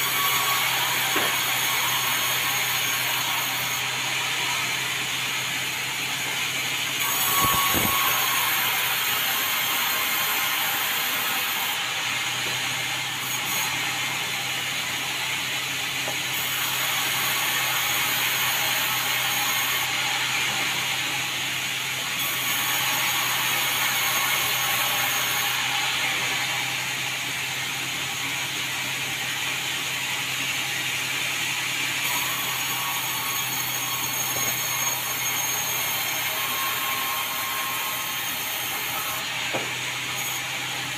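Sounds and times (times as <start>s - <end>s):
sawmill sawing timber: 0.0s - 40.9s.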